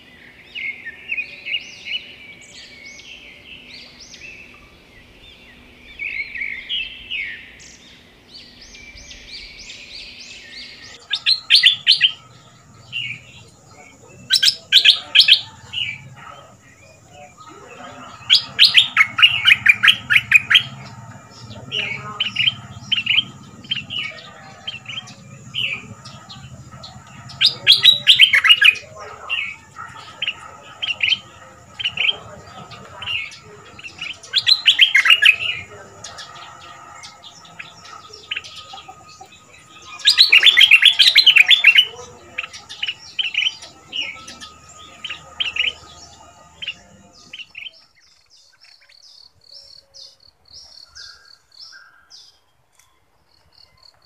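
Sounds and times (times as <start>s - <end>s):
bird rapid tumbling song: 3.8s - 47.7s.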